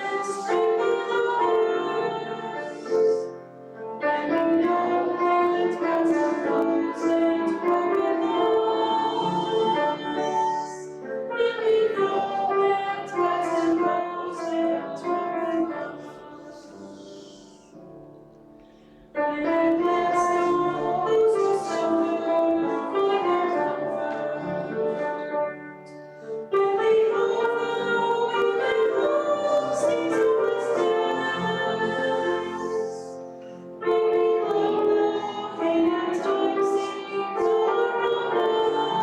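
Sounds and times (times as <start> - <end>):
voices singing a hymn: 0.0 - 17.9, 18.8 - 39.0.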